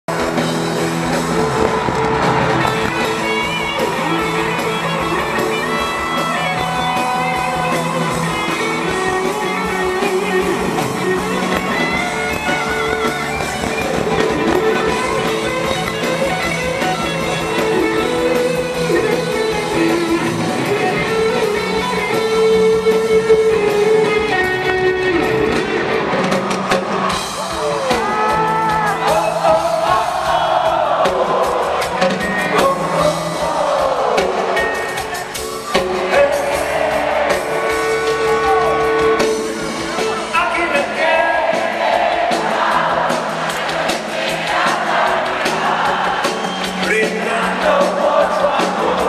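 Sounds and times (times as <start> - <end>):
drums: 0.0 - 49.0
electric guitars: 0.1 - 49.0
live rock band: 0.1 - 49.0.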